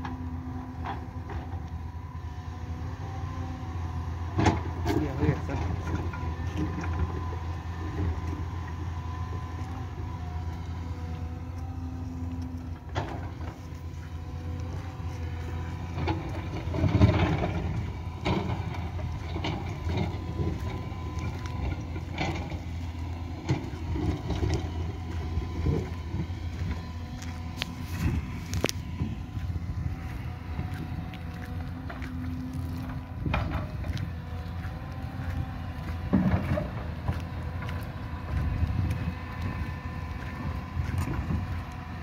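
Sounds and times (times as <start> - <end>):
diesel engine drone: 0.0 - 42.0.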